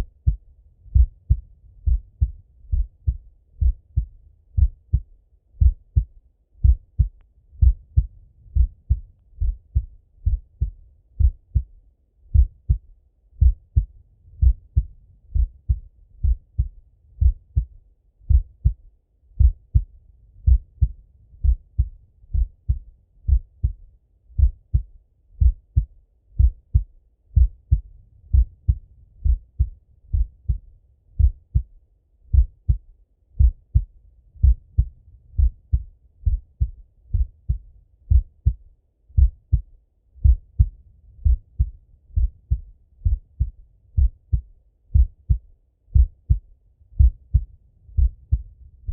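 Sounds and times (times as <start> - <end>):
heartbeat through stethoscope: 0.0 - 48.9.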